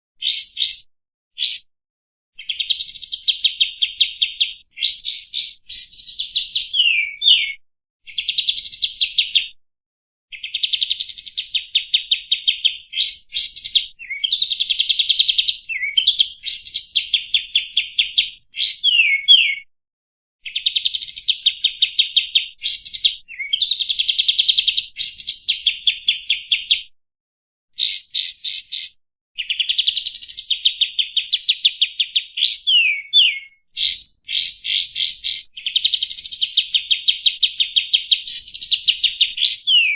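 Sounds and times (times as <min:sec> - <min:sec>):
songbird singing chattering song: 0:00.2 - 0:01.7, 0:02.4 - 0:09.5, 0:10.3 - 0:19.7, 0:20.4 - 0:26.9, 0:27.8 - 0:39.9.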